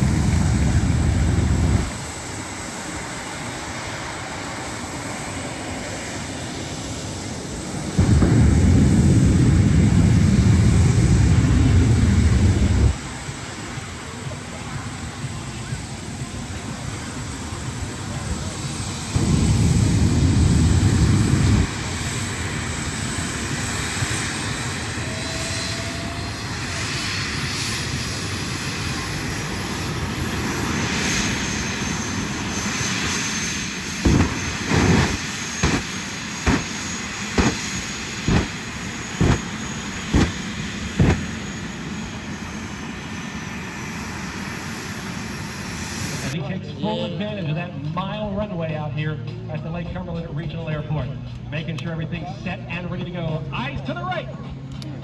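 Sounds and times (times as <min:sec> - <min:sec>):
loud jet engine blasts: 0:00.0 - 0:46.5
jet engine running with high whine: 0:00.0 - 0:55.0.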